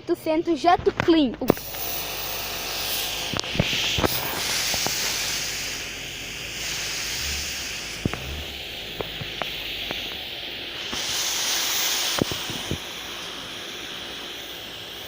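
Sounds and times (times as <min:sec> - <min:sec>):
pressure washer spraying: 0:01.5 - 0:15.0.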